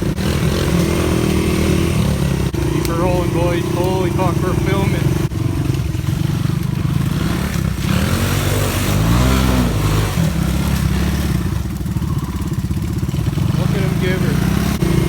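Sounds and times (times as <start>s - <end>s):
three-wheeler engine revving: 0.0s - 15.0s.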